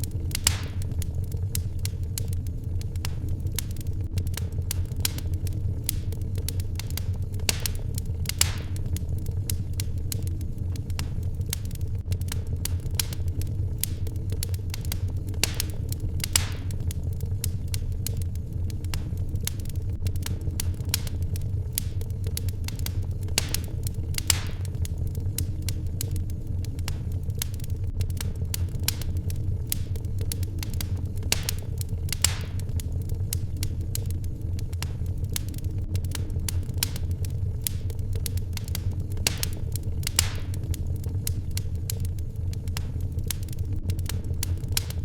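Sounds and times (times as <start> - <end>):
fire hissing: 0.0 - 45.0
wood fire crackling: 0.0 - 45.0.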